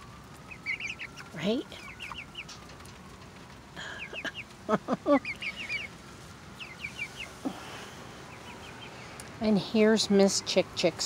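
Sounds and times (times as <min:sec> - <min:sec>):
young hens peeping: 0:00.0 - 0:10.7.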